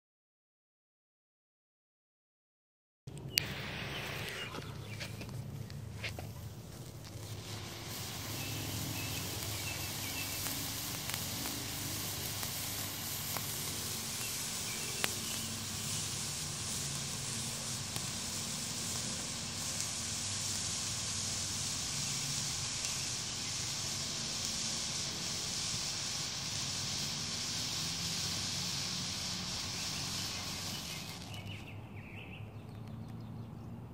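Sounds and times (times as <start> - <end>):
small pops: 3.2 - 31.7
firework fountain hissing: 3.2 - 32.3.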